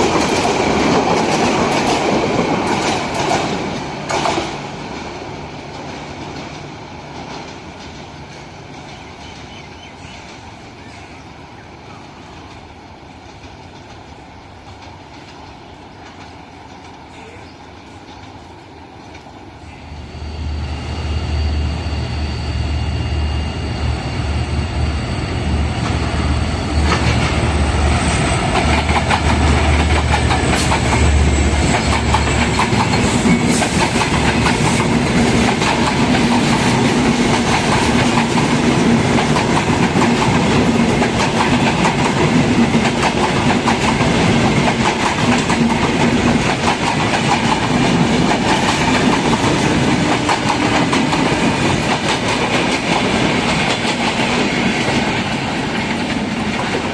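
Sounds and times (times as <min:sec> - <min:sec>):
train wheels clickety-clack: 0:00.0 - 0:11.1, 0:11.9 - 0:19.4, 0:25.7 - 0:56.9
diesel locomotive engine rumble: 0:00.0 - 0:56.9.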